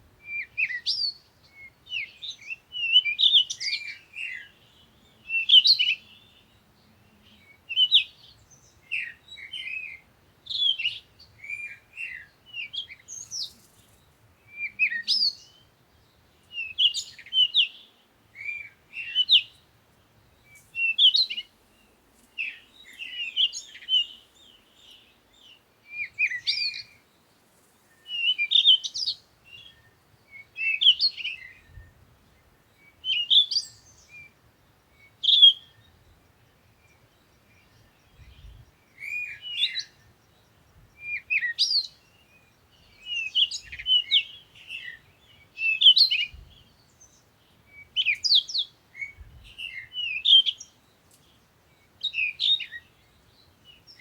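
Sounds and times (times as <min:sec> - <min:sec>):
bird chirping: 0:00.2 - 0:54.0.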